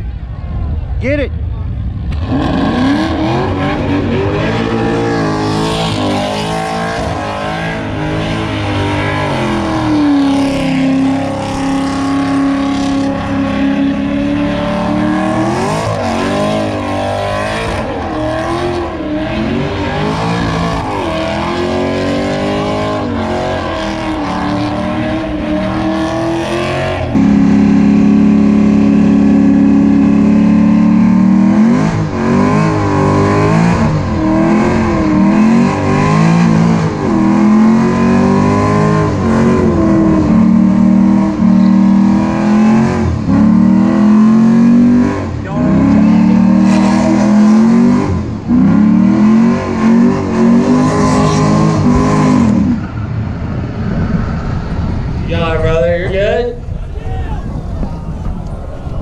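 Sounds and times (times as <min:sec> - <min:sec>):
car engine revving high: 0:02.0 - 0:55.6.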